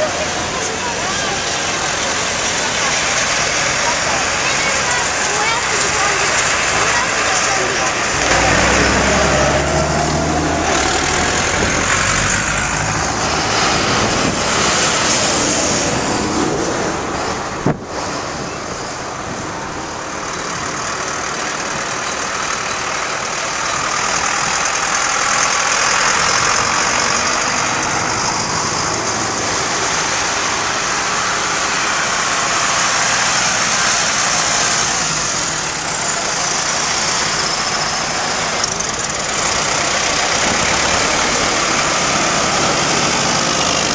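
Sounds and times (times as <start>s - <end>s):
tractor engines driving past: 0.0s - 43.9s.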